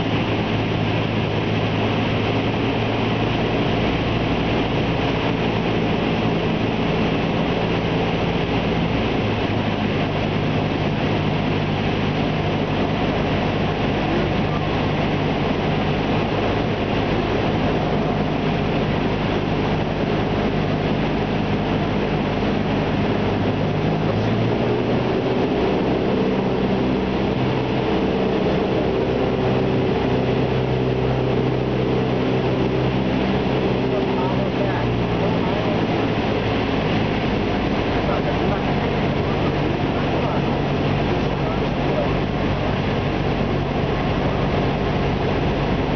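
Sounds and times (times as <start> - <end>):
airflow noise: 0.0 - 45.9
propeller plane engine drone: 0.0 - 45.9.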